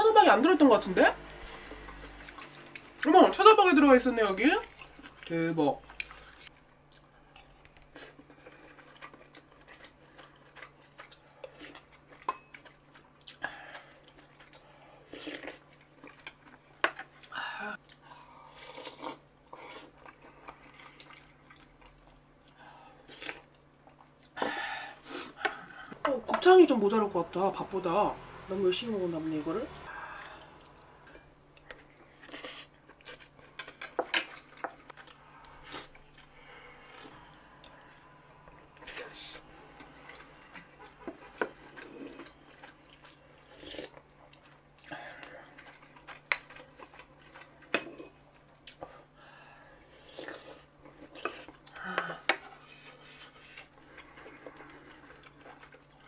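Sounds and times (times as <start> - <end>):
person chewing food: 1.4 - 3.1, 4.6 - 26.2, 29.9 - 56.0.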